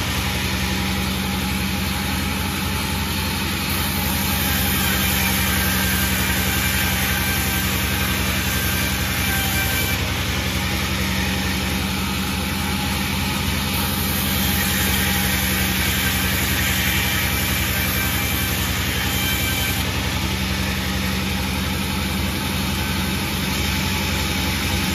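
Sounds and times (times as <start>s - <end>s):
sawmill engine running: 0.0s - 24.9s.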